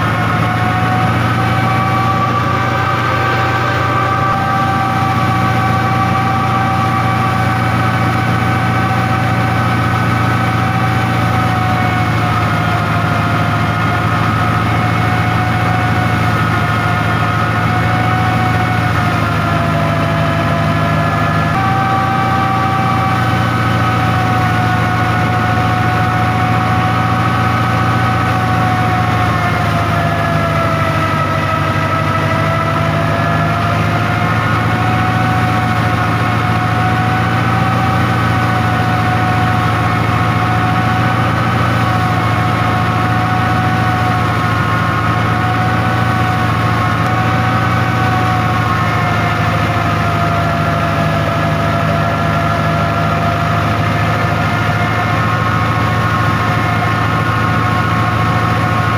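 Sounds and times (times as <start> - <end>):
thresher high whine: 0.0 - 58.9
tractor engine drone: 0.0 - 58.9.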